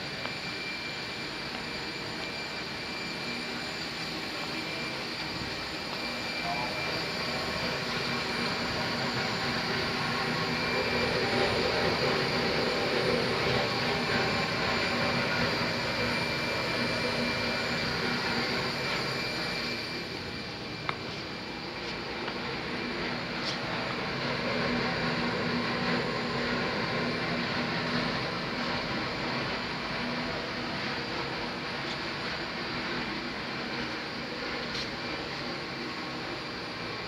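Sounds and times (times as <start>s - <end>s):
thin high whine: 0.0s - 37.0s.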